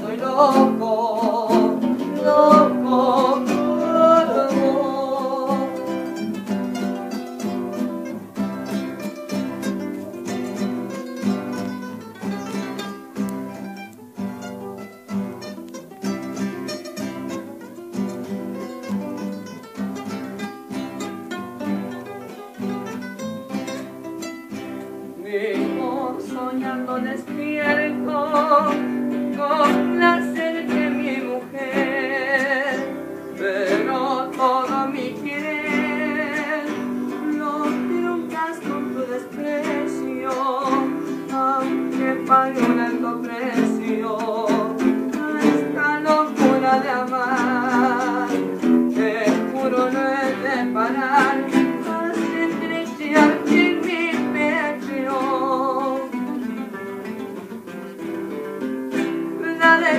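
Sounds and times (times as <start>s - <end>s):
acoustic guitars strumming chords: 0.0s - 59.9s.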